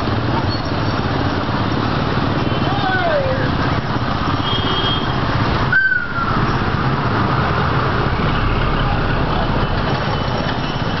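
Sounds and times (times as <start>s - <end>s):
street traffic din: 0.0s - 11.0s.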